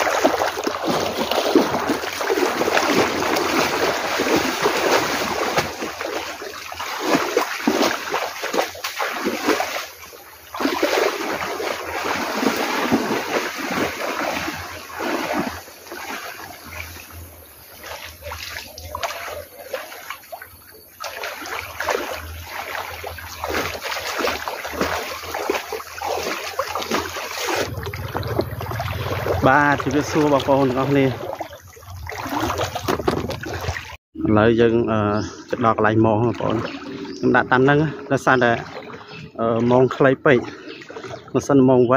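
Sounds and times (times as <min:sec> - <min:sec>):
wading through water splashing: 0:00.0 - 0:34.0, 0:34.9 - 0:41.9.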